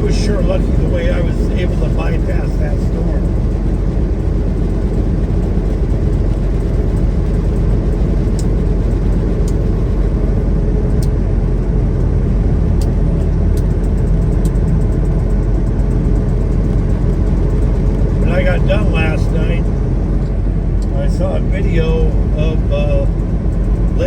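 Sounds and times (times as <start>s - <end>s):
truck engine and road rumble: 0.0s - 24.0s.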